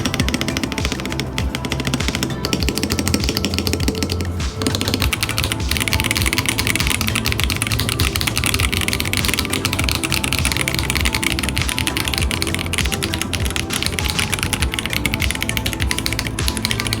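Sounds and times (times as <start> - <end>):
background music with steady beat: 0.0 - 17.0
mechanical keyboard typing: 0.0 - 17.0.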